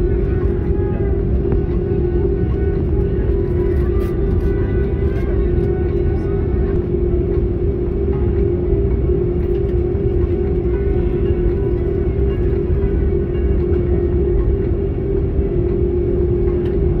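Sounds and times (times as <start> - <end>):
jet engines humming: 0.0 - 17.0
low cabin rumble: 0.0 - 17.0.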